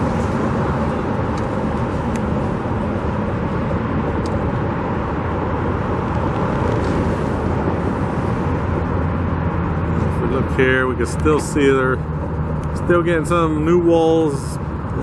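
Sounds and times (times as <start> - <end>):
rush of passing cars: 0.0 - 15.0.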